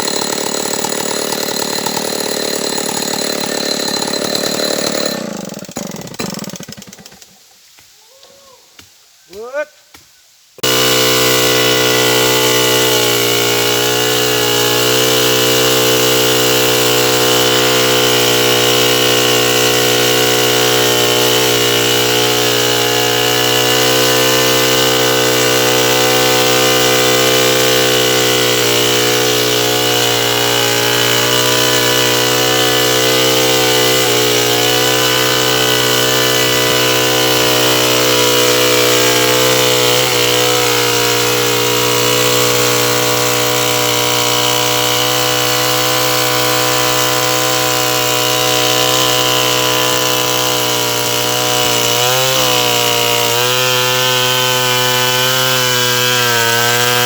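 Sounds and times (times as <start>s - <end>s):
chainsaw running at high speed: 0.0s - 7.1s, 10.6s - 57.0s.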